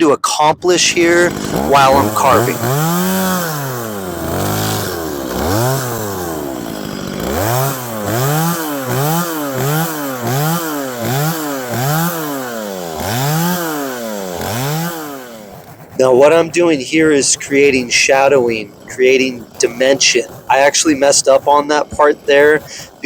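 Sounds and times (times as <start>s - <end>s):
chainsaw revving while cutting wood: 0.6s - 23.0s.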